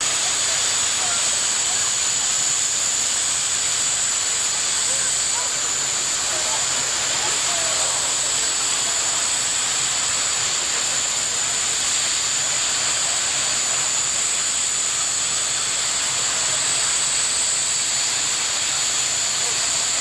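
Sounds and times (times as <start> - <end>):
jet engine whine: 0.0 - 20.0.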